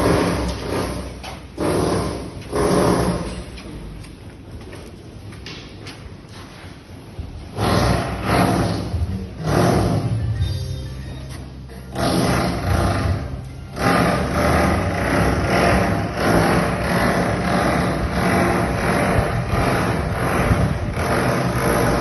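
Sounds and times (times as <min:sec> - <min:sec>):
construction machinery rhythmic pulse: 0:00.0 - 0:22.0.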